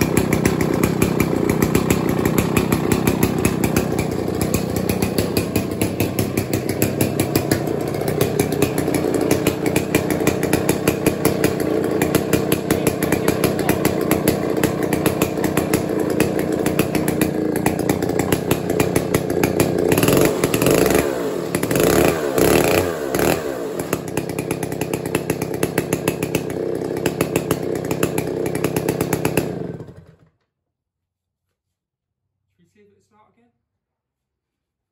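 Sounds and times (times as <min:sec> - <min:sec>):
chainsaw running and revving: 0:00.0 - 0:30.3.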